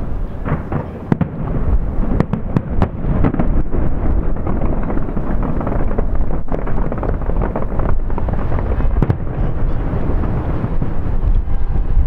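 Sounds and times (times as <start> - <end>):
distant fireworks rumble: 0.0 - 12.0.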